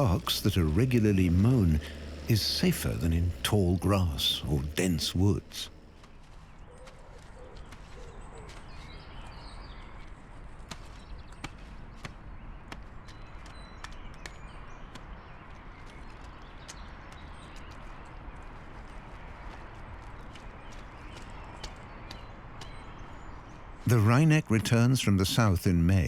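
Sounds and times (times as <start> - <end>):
outdoor background noise: 0.0 - 26.0
woodpecker pecking ground: 0.0 - 26.0.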